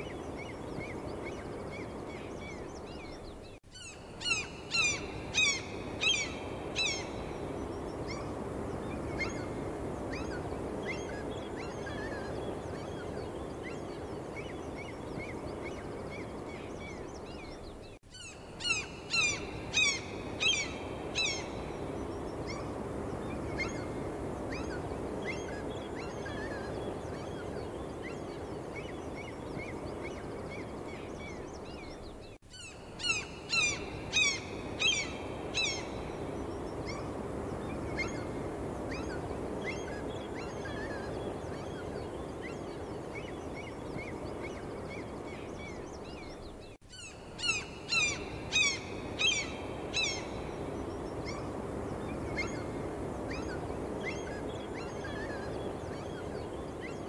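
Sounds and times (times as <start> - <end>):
gulls calling: 0.0 - 57.0.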